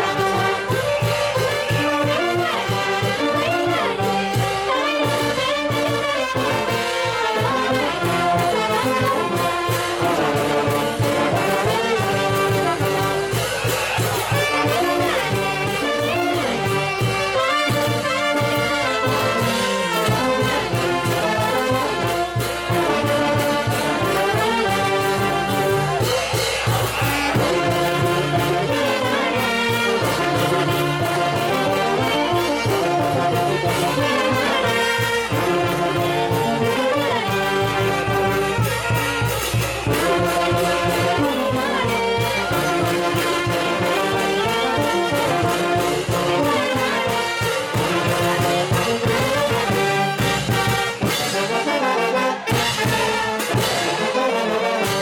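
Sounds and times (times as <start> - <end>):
brass band playing dance tune: 0.0 - 55.0.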